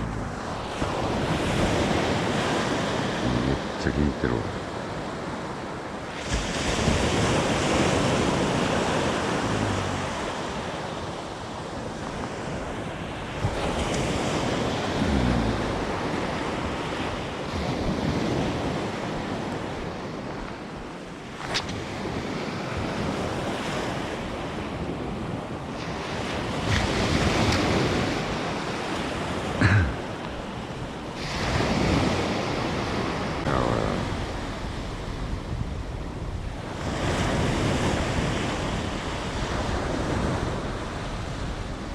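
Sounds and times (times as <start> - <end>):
waves breaking on a beach: 0.0 - 41.9.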